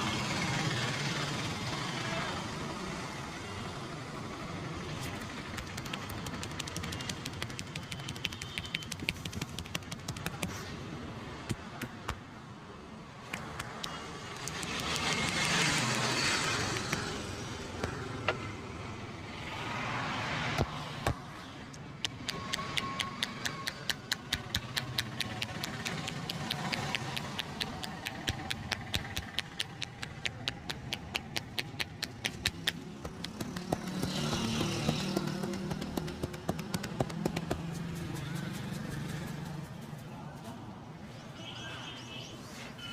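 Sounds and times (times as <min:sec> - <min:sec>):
street traffic: 0:00.0 - 0:42.9.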